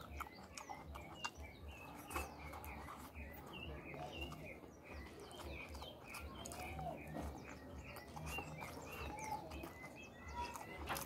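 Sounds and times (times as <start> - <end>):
faint eating clicks and smacks: 0.0 - 11.0
small birds chirping: 0.0 - 11.0.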